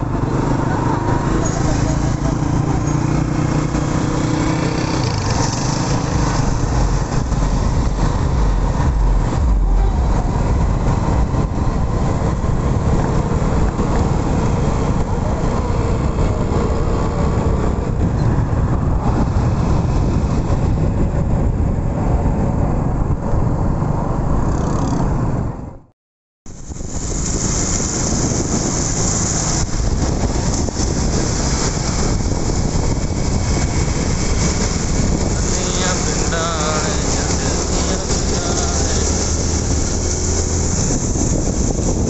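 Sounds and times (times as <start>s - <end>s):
road and wind noise: 0.0s - 25.9s, 26.5s - 42.0s
vehicle engine hum: 0.0s - 25.9s, 26.5s - 42.0s.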